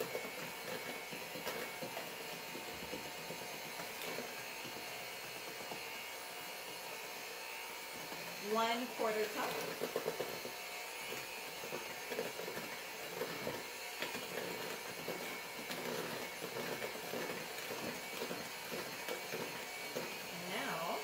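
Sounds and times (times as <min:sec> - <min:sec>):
electric hand mixer running: 0:00.0 - 0:21.0.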